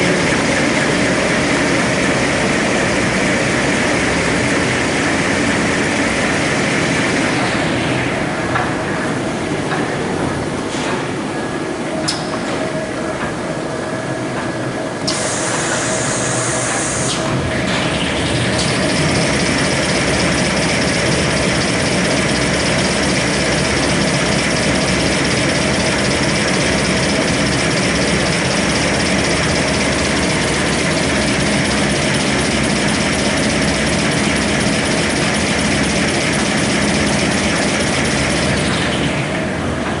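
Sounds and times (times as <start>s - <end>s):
factory machinery din: 0.0s - 40.0s.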